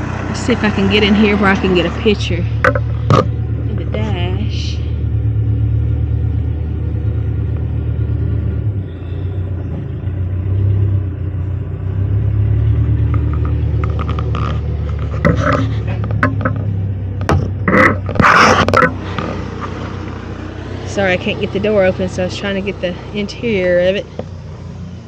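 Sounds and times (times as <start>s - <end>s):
steady low rumble: 0.0s - 24.2s.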